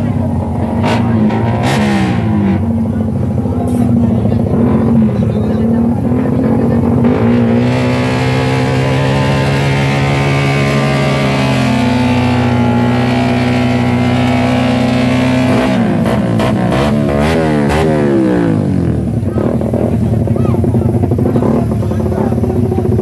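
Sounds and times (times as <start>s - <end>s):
racing motorcycles revving: 0.0s - 23.0s.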